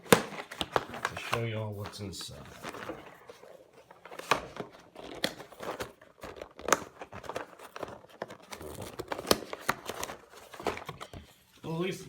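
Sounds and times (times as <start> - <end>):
packaging tearing and crinkling: 0.0 - 11.1.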